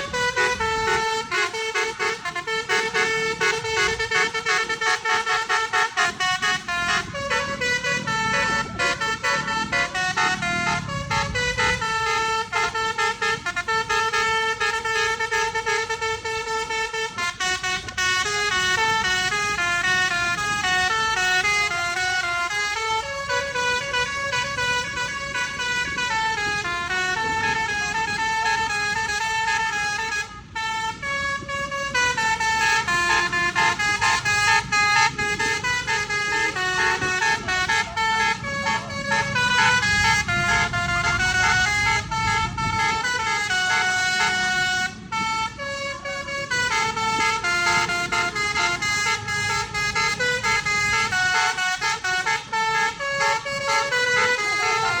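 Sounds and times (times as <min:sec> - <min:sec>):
multi-tone air horn tune: 0:00.0 - 0:55.0.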